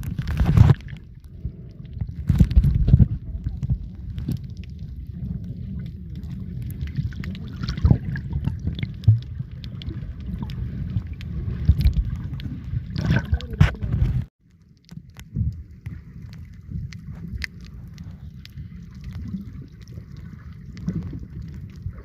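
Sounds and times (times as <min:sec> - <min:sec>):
sea water sloshing and gurgling: 0:00.0 - 0:22.0.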